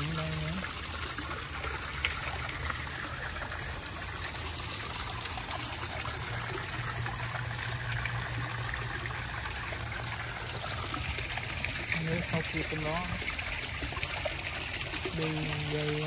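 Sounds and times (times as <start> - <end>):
waterfall splashing into pond: 0.0 - 16.0.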